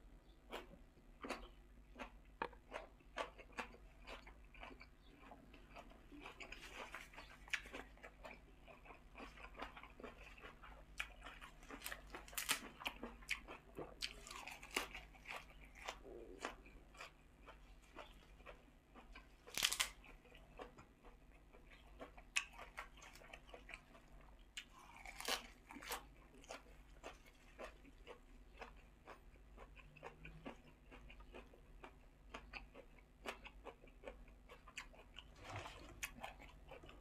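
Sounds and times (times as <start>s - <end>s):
person chewing crunchy vegetables: 0.2s - 37.0s.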